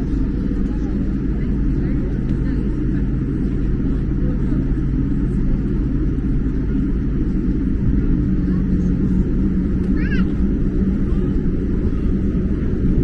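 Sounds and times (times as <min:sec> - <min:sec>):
jet engines low rumble in cabin: 0:00.0 - 0:13.0.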